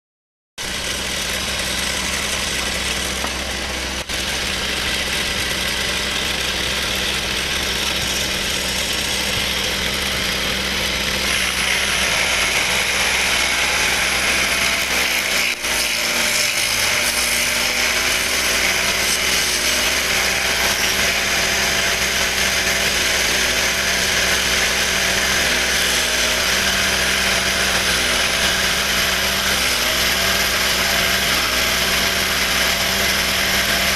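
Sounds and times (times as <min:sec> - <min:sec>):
hiss of cutting wood: 0:00.6 - 0:33.9
wood lathe running: 0:00.6 - 0:33.9.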